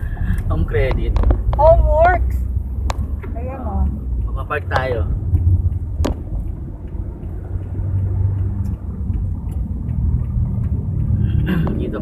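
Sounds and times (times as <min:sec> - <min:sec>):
car rumble from inside cabin: 0:00.0 - 0:12.0.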